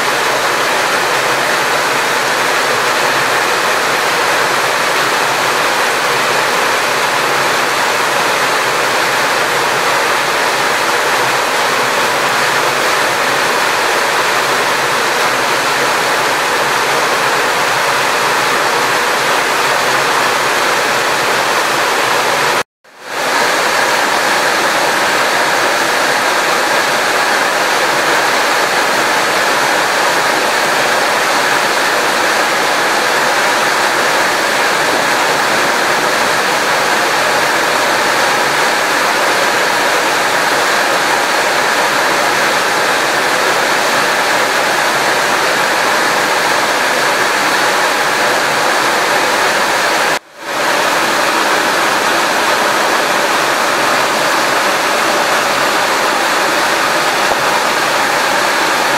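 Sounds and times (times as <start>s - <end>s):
water rushing: 0.0s - 58.9s.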